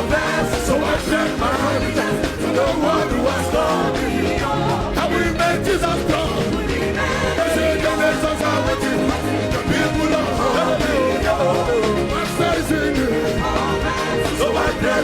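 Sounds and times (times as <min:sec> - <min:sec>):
voices singing: 0:00.0 - 0:15.0
worship band playing: 0:00.0 - 0:15.0.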